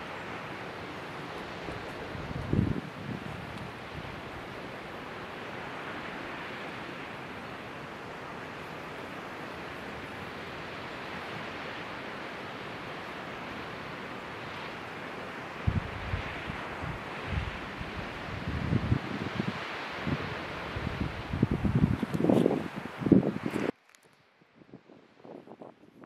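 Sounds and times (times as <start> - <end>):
distant surf against rocks: 0.0 - 23.8.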